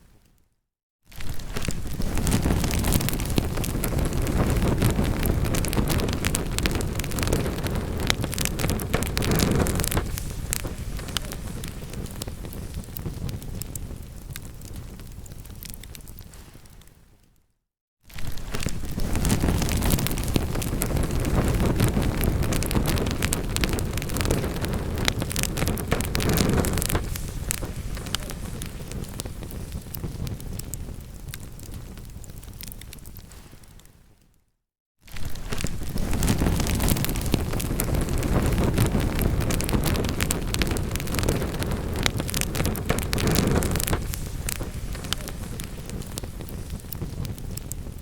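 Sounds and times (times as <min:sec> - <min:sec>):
low rumble of burning: 0:01.1 - 0:17.2, 0:18.1 - 0:33.9, 0:35.1 - 0:48.0
wood fire crackling: 0:01.1 - 0:17.2, 0:18.1 - 0:34.0, 0:35.1 - 0:48.0.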